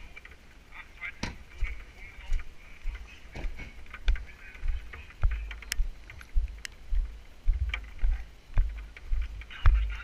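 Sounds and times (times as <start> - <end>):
faint rain hiss: 0.0 - 10.0
footsteps on wet road: 0.0 - 10.0.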